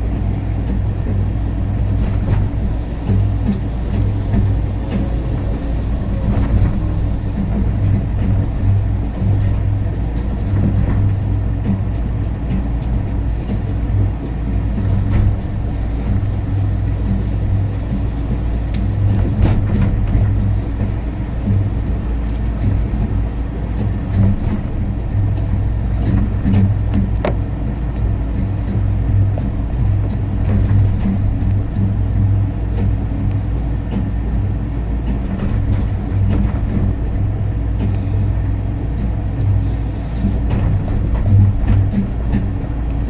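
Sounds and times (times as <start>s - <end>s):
cable car rumble and hum: 0.0s - 43.0s.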